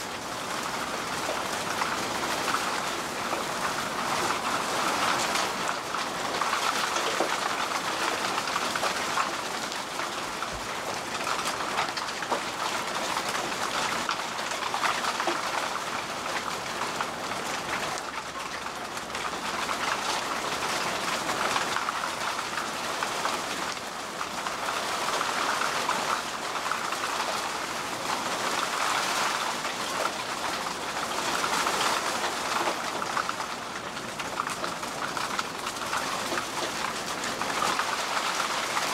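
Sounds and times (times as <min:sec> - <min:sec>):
heavy rain on standing water: 0:00.0 - 0:38.9.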